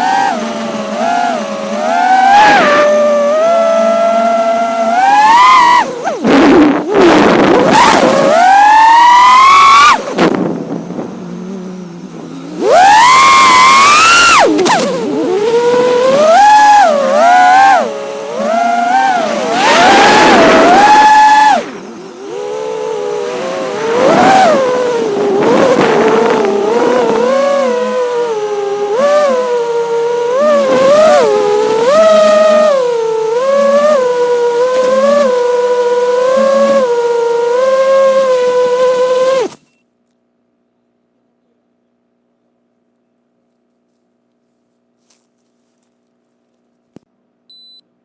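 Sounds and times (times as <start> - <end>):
drone motors whining: 0.0 - 39.7.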